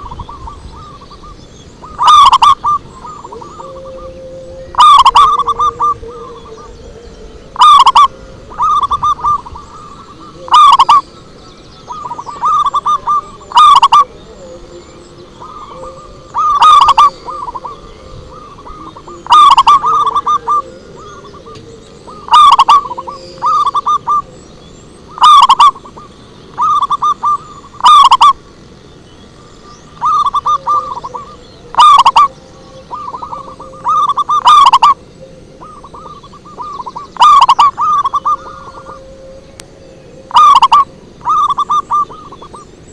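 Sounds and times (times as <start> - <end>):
dove cooing: 0.0 - 28.6, 29.4 - 42.9
faint bird chirps: 0.0 - 42.9.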